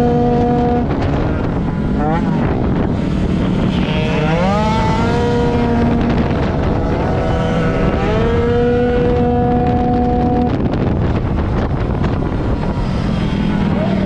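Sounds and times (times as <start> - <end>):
scooter engine revving: 0.0 - 14.0.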